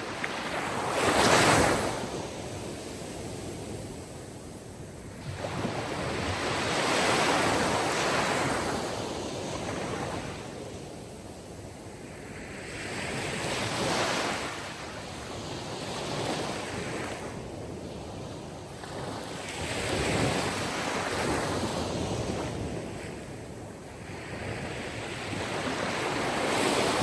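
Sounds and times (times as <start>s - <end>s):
waves washing in and back: 0.0s - 27.0s.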